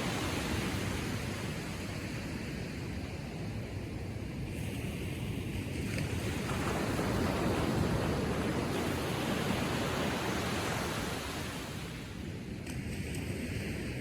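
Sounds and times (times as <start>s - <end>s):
ocean waves washing: 0.0s - 12.4s.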